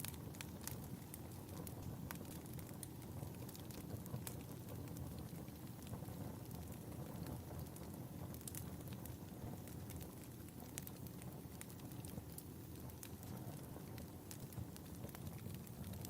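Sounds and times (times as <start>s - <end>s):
fire popping and snapping: 0.0s - 16.0s
fireplace fire crackling: 0.0s - 16.0s.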